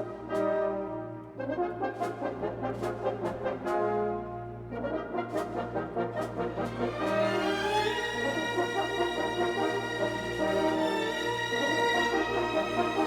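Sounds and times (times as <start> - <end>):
brass music with beat: 0.0 - 13.0.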